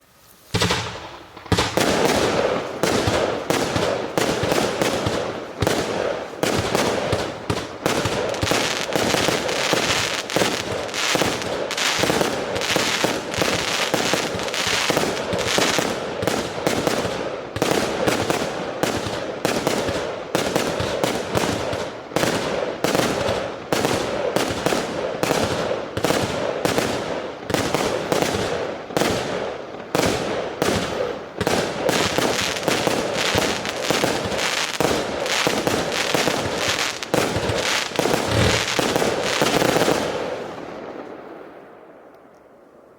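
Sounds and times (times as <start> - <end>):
firework crackling: 0.0 - 41.1
firework shots: 0.0 - 41.7.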